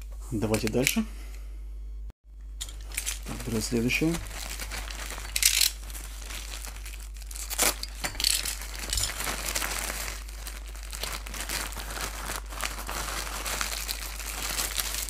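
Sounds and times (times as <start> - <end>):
plastic crinkling and rustling: 2.6 - 15.0.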